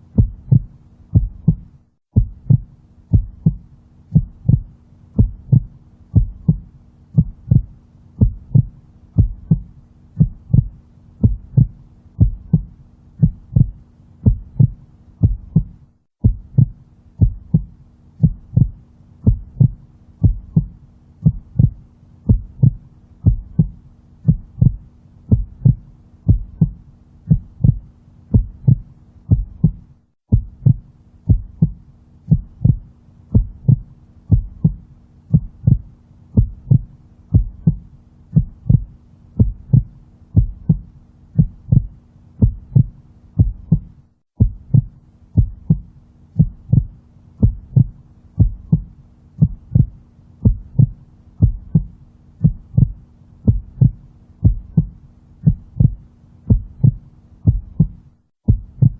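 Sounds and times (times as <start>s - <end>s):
faint steady hum: 0.0s - 58.9s
heartbeat thumps: 0.0s - 58.9s.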